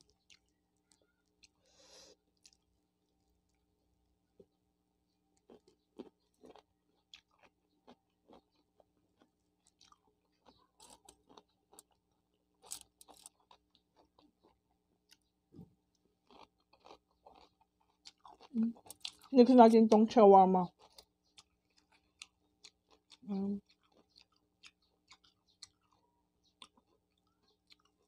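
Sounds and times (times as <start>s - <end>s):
chewing crunchy cucumber: 0.0s - 4.6s, 5.3s - 28.0s.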